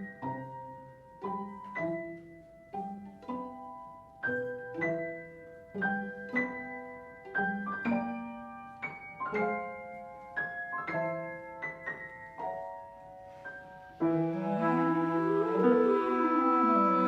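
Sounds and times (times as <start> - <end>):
cello and bowed strings: 0.0 - 17.0
piano single notes: 0.0 - 17.0.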